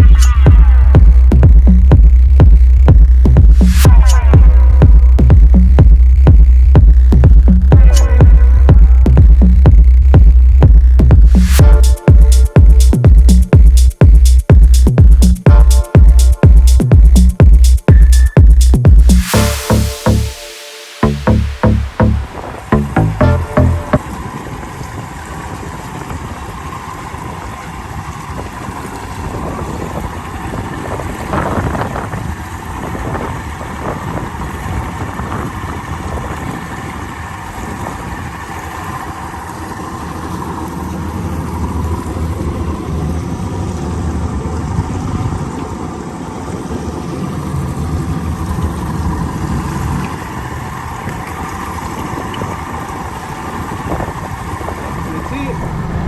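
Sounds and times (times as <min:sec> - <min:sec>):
wind rushing over microphone: 0:00.0 - 0:20.0, 0:22.2 - 0:22.8, 0:24.0 - 0:40.3, 0:41.3 - 0:56.0
small boat motor running: 0:00.0 - 0:20.3, 0:21.0 - 0:56.0
water noise: 0:00.0 - 0:56.0.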